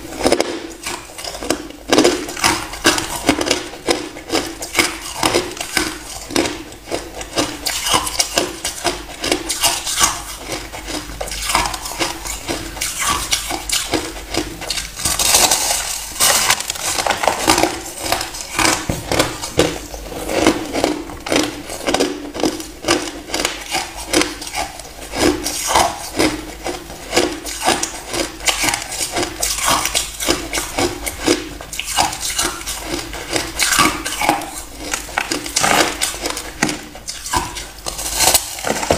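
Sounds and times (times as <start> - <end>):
person chewing ice: 0.0 - 38.9.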